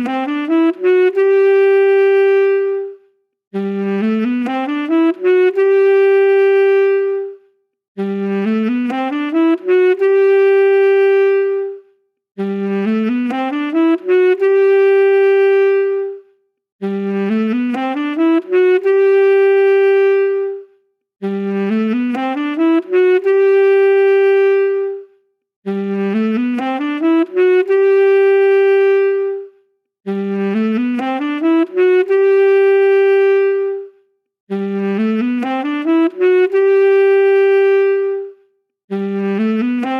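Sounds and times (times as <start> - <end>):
solo saxophone: 0.0 - 39.9.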